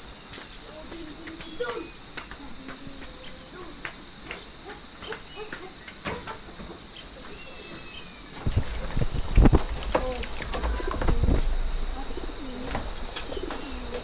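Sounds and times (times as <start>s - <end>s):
insects trilling: 0.0s - 14.0s
faint clicks: 0.3s - 14.0s.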